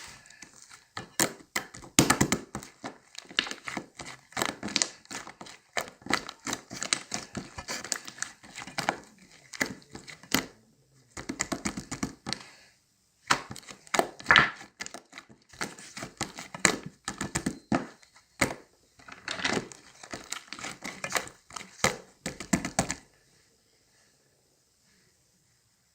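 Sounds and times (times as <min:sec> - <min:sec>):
crinkling and crackling: 0:00.0 - 0:12.5, 0:13.3 - 0:23.1.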